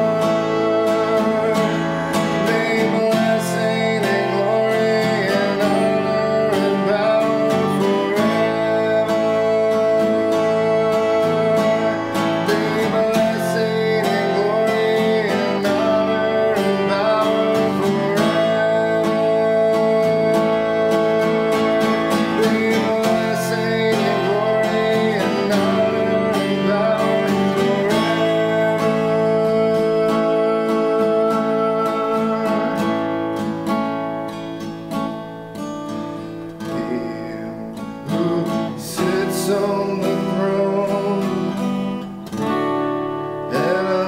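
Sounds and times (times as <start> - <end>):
man singing: 0.0 - 34.4, 35.0 - 44.0
acoustic guitar strumming: 0.0 - 44.0.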